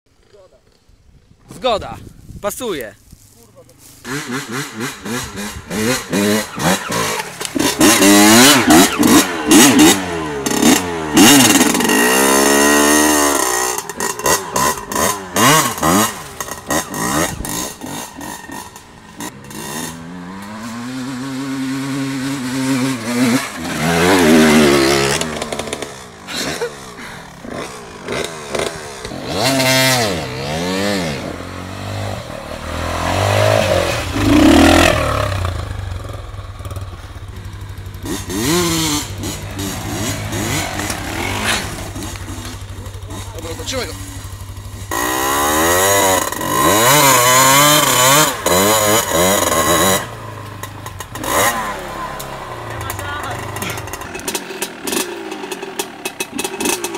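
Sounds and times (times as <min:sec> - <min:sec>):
dirt bike engine revving: 0:03.8 - 0:56.9.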